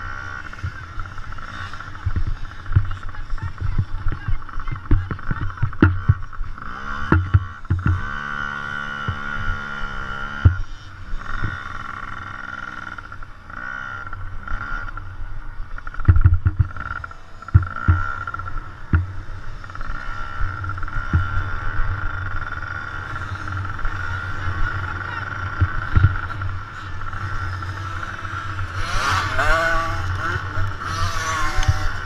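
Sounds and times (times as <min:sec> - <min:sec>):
dirt bike engines: 0:00.0 - 0:32.0.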